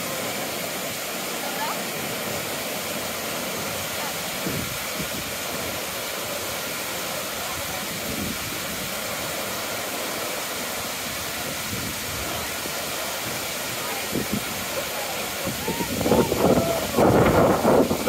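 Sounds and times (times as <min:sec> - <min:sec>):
waterfalls roaring: 0:00.0 - 0:18.0.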